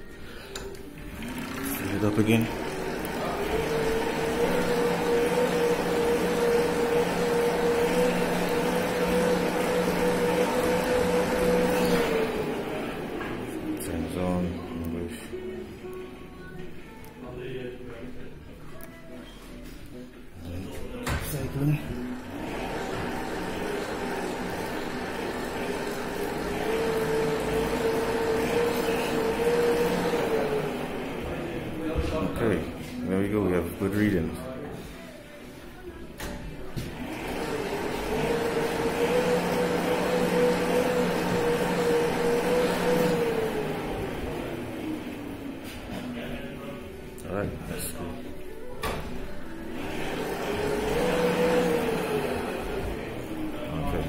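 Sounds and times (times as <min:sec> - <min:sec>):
exercise bike flywheel whirring: 0:00.0 - 0:15.9, 0:20.5 - 0:54.0.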